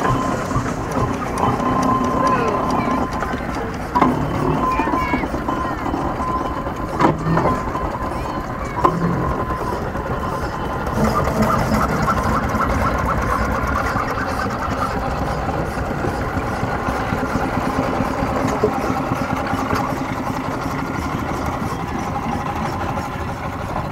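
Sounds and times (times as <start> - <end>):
miniature steam engines running: 0.0 - 23.9.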